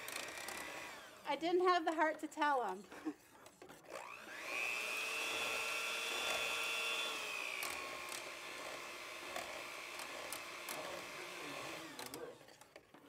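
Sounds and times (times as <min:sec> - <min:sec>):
electric hand mixer whine: 0:00.0 - 0:01.3, 0:02.8 - 0:13.0.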